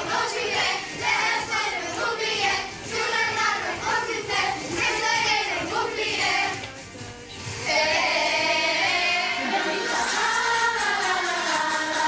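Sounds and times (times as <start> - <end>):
children singing: 0.0 - 6.9, 7.6 - 12.0.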